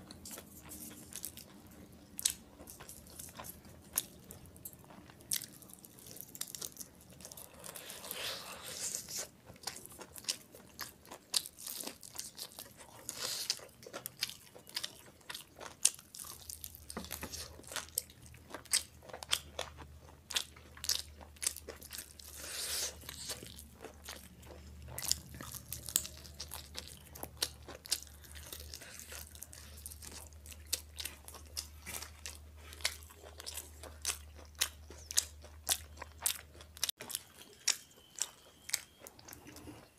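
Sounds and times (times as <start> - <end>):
crisp crunching of fried food: 0.0 - 39.9
wet chewing: 0.0 - 39.9.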